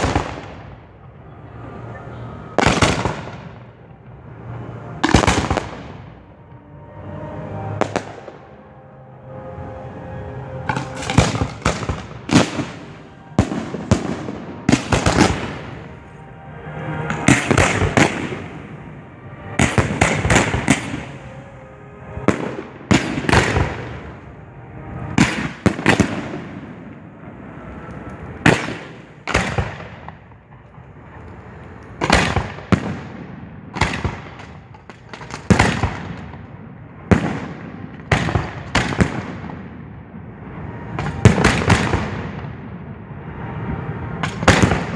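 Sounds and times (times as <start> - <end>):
fireworks bangs: 0.0 - 1.0, 1.6 - 8.6, 10.6 - 39.9, 40.5 - 44.9.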